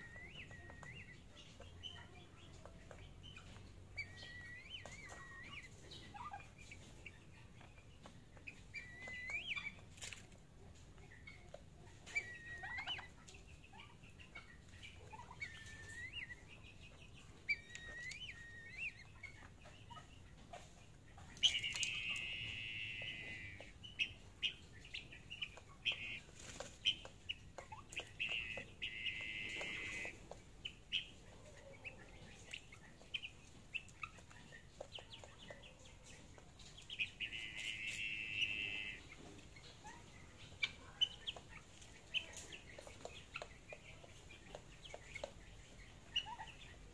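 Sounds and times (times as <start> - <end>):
chickens pecking feeder: 0.0 - 46.9
chicks chirping: 0.0 - 46.9.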